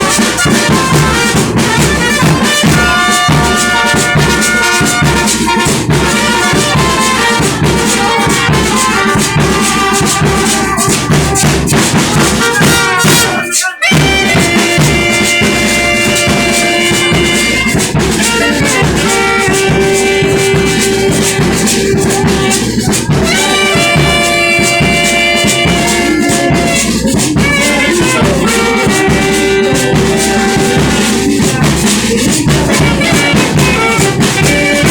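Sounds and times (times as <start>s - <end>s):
brass dance music with drums: 0.0s - 34.9s.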